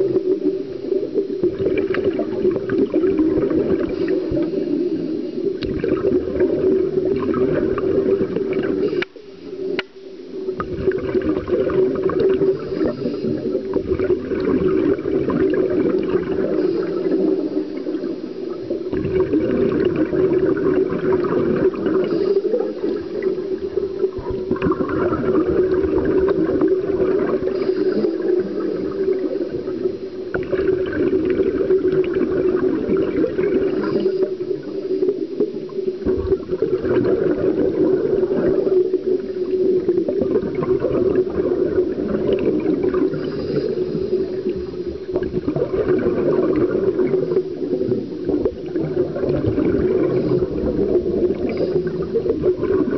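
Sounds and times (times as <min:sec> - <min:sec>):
scuba exhalation bubbling: 0:00.0 - 0:09.8, 0:10.4 - 0:52.9
muffled underwater hum: 0:00.0 - 0:52.9.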